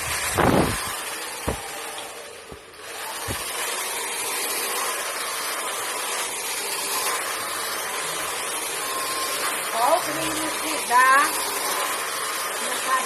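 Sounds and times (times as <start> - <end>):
hair dryer blowing air: 0.0 - 13.0.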